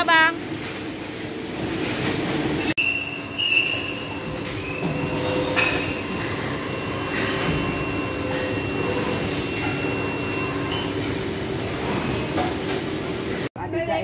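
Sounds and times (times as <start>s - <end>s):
injection moulding machines humming: 0.0s - 13.5s.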